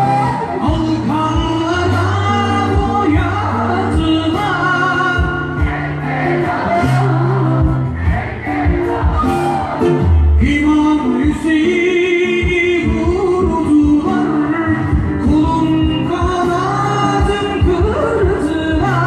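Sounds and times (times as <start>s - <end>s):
man singing over band: 0.0s - 19.0s.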